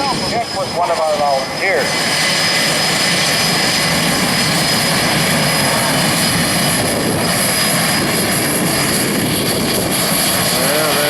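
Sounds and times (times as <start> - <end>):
airplane engine noise: 0.0 - 11.0.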